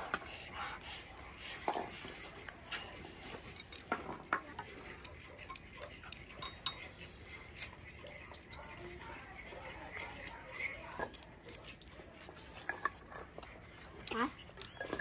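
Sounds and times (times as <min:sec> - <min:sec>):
chopsticks clicking against bowls: 0:01.3 - 0:15.0.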